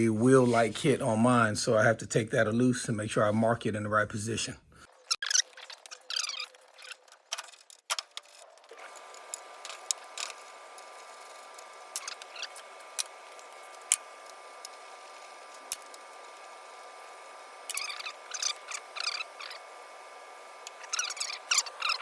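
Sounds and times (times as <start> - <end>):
faint hum with tones: 0.0 - 22.0.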